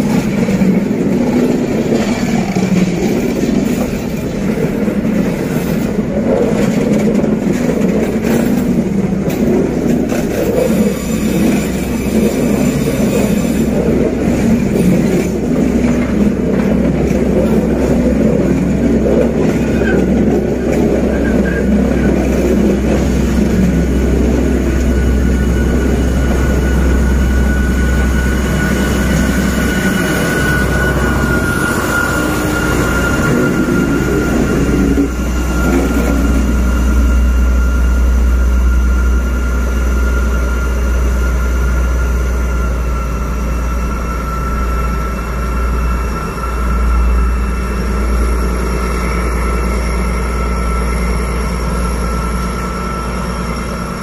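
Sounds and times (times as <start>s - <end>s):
diesel locomotive whining: 0.0s - 54.0s
train wheels rumbling on rail: 0.0s - 54.0s.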